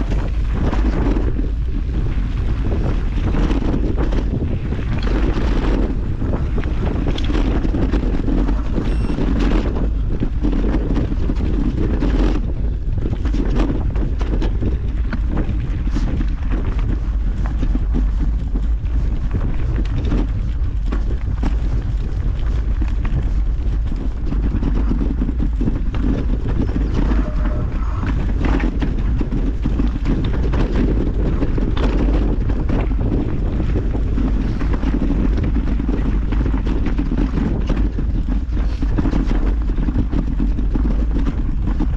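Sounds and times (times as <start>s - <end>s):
bike rattling over rocks: 0.0s - 41.9s
bike tyre rumble: 0.0s - 41.9s
wind buffeting microphone: 0.0s - 41.9s.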